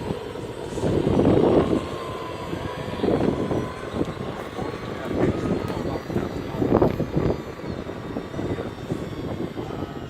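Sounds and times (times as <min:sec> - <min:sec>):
electric motors whining: 0:00.0 - 0:10.0.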